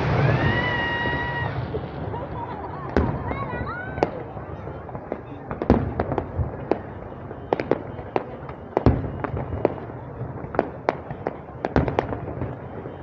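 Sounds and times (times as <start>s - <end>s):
crowd chatter: 0.0s - 13.0s
fireworks bangs: 0.0s - 13.0s.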